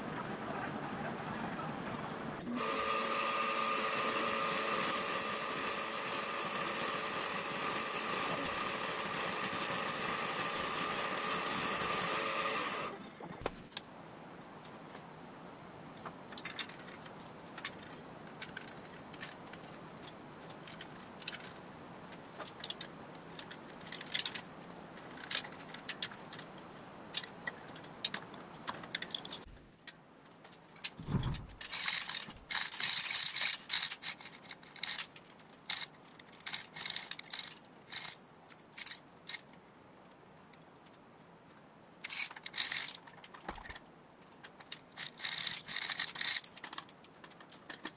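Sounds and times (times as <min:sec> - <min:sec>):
steady background hum: 0:00.0 - 0:47.9.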